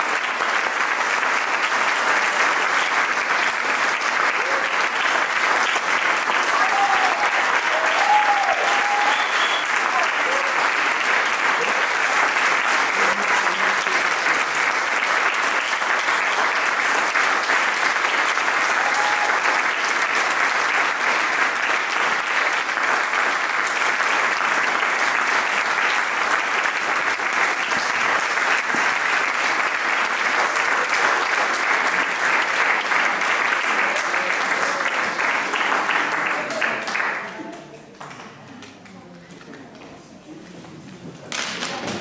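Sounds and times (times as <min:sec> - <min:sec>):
audience applauding: 0:00.0 - 0:38.4.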